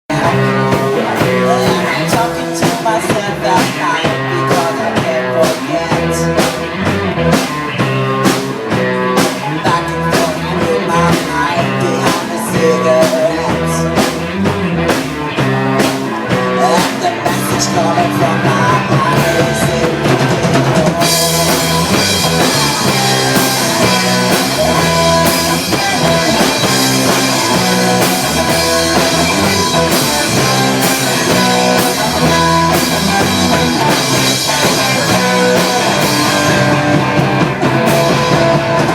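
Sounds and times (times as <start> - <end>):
guitar: 0.0 - 38.9
bass drum: 0.1 - 38.9
rock band playing: 0.1 - 38.9.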